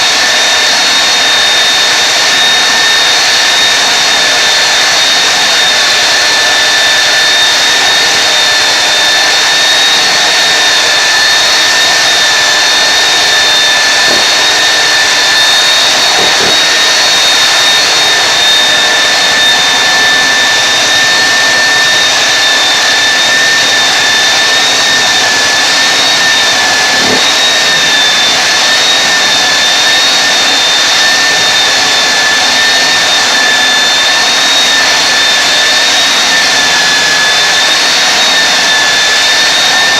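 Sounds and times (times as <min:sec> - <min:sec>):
floor sander whining: 0:00.0 - 0:39.9.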